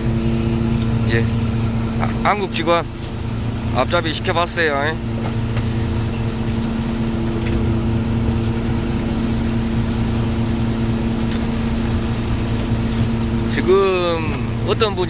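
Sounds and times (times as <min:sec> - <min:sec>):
boat engine and machinery humming: 0:00.0 - 0:15.0.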